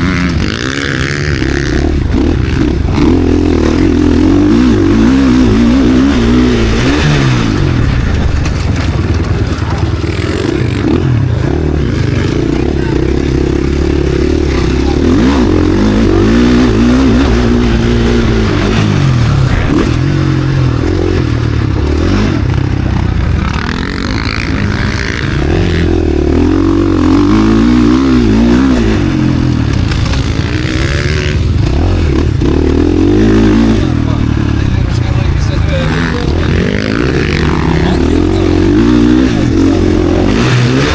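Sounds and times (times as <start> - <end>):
motocross engine revving: 0.0 - 40.9.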